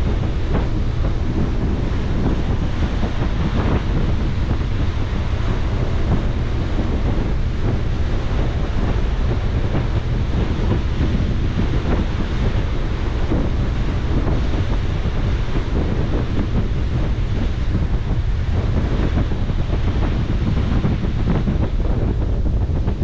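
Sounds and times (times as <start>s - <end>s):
low engine rumble: 0.0s - 23.0s
water rushing along hull: 0.0s - 23.0s
wind buffeting microphone: 0.0s - 23.0s.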